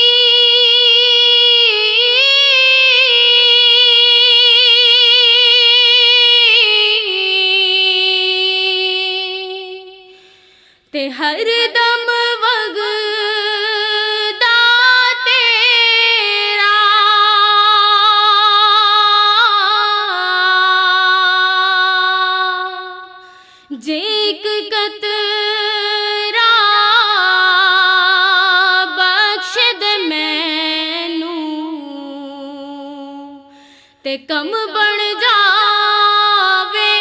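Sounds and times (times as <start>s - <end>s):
woman singing: 0.0s - 10.2s, 10.9s - 37.0s.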